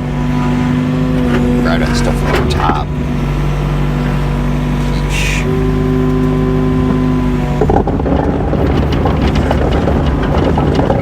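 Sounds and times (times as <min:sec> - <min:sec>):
diesel engine running: 0:00.0 - 0:11.0
rough clattering: 0:00.0 - 0:11.0.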